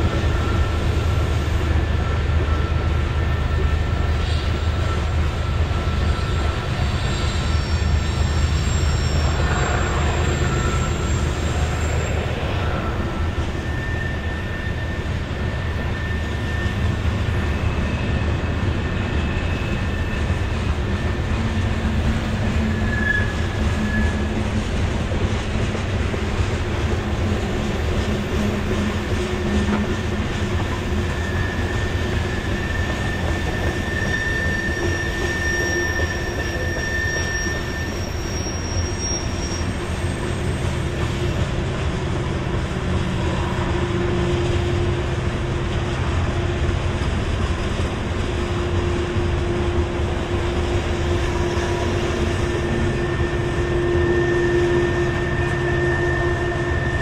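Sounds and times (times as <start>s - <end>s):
high wheel squeals: 0.0s - 24.8s, 26.1s - 45.4s, 48.4s - 57.0s
train wheels rumbling on rail: 0.0s - 57.0s.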